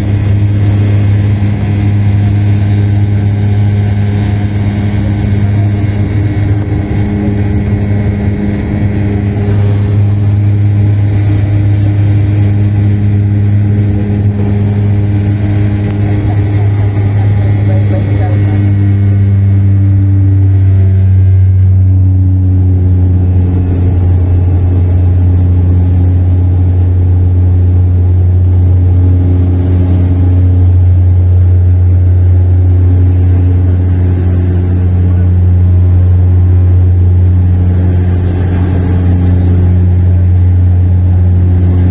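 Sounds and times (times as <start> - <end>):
airliner engines drone in cabin: 0.0 - 41.9.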